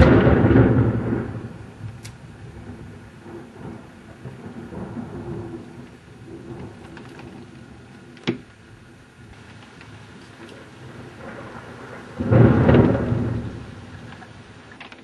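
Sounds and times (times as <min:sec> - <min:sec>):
distant thunder rumbling: 0:00.0 - 0:14.7.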